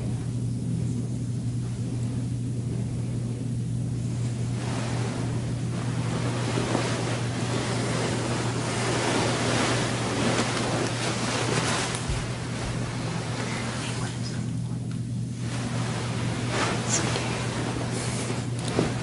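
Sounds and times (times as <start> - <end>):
bedding rustling: 0.0 - 19.0
steady low hum: 0.0 - 19.0.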